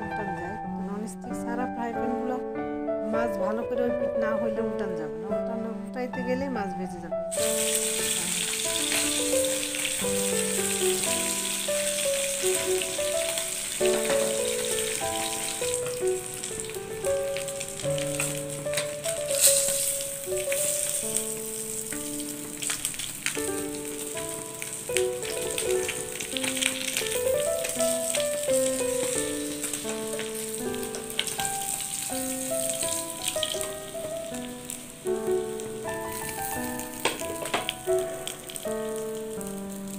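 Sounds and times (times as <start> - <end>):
instrumental background music: 0.0 - 39.9
fish sizzling in hot oil: 7.3 - 39.9.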